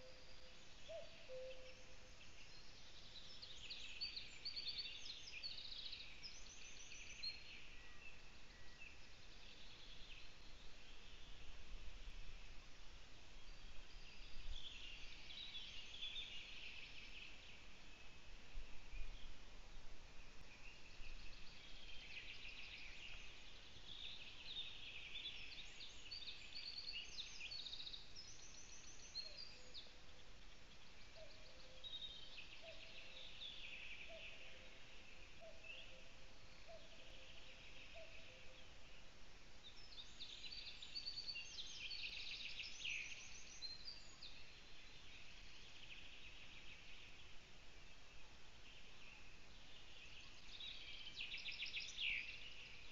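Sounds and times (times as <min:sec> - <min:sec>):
songbirds singing: 0:00.0 - 0:52.9.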